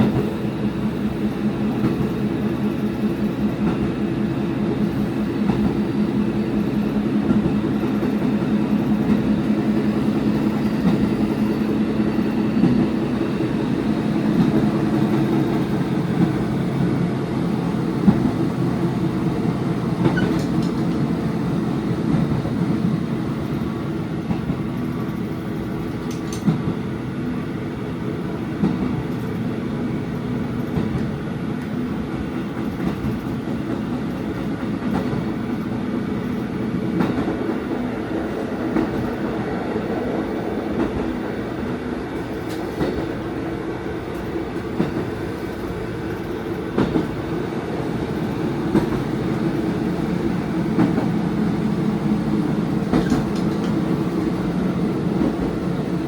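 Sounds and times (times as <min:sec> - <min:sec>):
railcar engine hum: 0:00.0 - 0:56.0.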